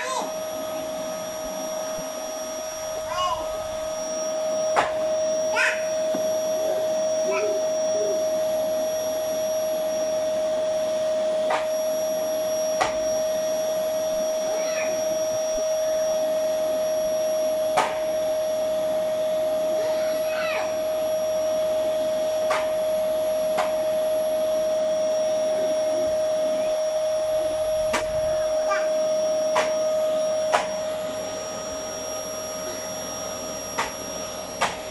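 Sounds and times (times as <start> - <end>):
vacuum cleaner humming: 0.0 - 34.9.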